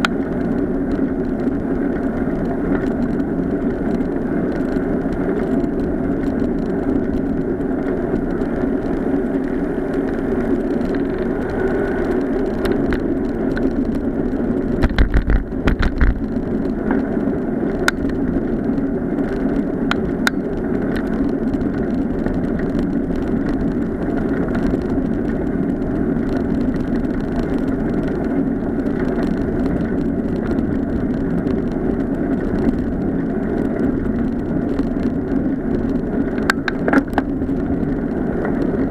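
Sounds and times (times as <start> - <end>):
bicycle tyres rumbling on tarmac: 0.0 - 38.9
wind: 0.0 - 38.9.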